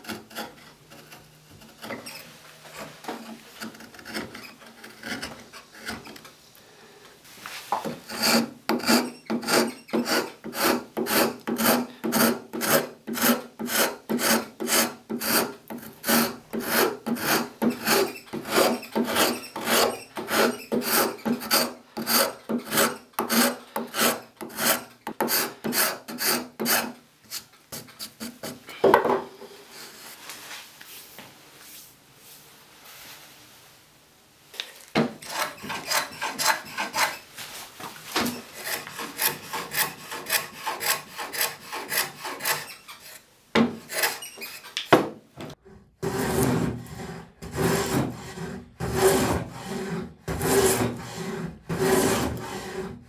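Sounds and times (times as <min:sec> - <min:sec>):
rasp scraping wood: 0:00.0 - 0:06.3, 0:07.8 - 0:28.6, 0:35.0 - 0:37.2, 0:38.1 - 0:44.9, 0:46.0 - 0:53.0.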